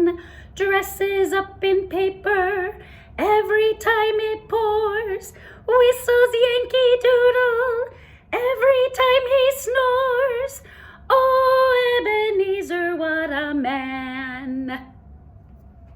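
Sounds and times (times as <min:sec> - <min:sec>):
woman singing unaccompanied: 0:00.0 - 0:14.9.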